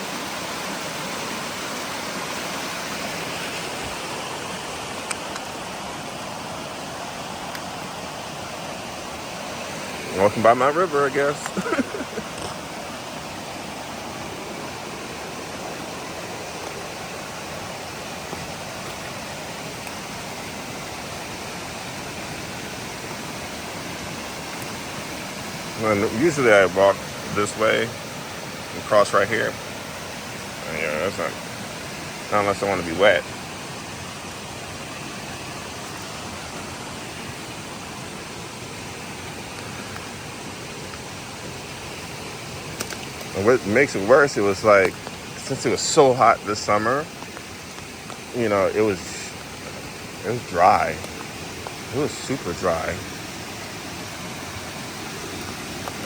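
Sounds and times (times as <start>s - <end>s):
creek rushing water roar: 0.0s - 56.0s.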